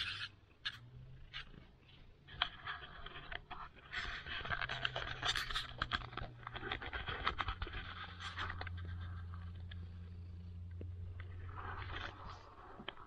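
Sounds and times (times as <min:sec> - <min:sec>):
cat scratching and clicking on carpet: 0:00.0 - 0:13.0.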